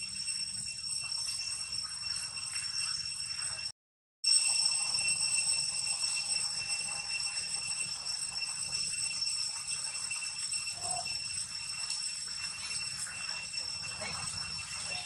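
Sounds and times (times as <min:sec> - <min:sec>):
high-pitched insect drone: 0:00.0 - 0:03.7, 0:04.3 - 0:15.0.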